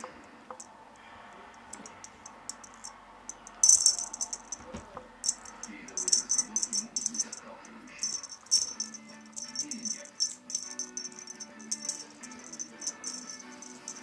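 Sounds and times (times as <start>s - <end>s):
cat toy jingling and rattling: 1.7s - 14.0s.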